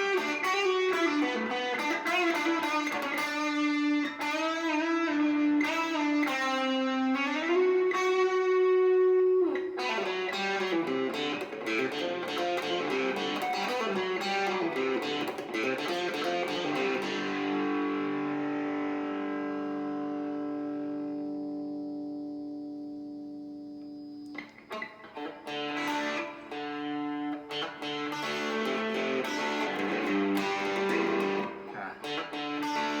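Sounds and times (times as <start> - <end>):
electric guitar playing: 0.0 - 33.0.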